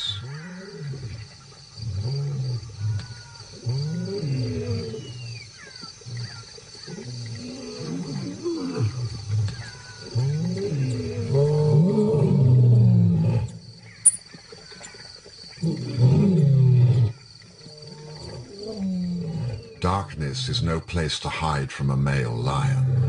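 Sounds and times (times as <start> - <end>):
lions growling: 0.0 - 13.8, 15.6 - 20.1, 22.4 - 23.0.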